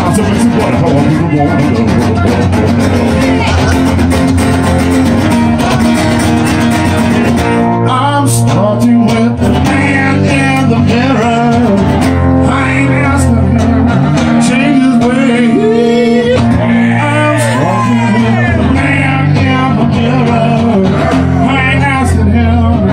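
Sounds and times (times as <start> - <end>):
acoustic guitars strumming: 0.0 - 22.9
man singing: 0.0 - 22.9.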